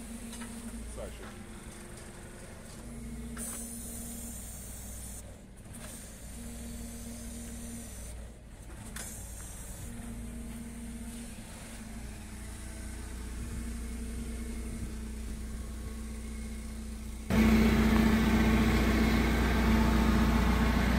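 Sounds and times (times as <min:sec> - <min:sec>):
forklift engine running: 0:00.0 - 0:20.9.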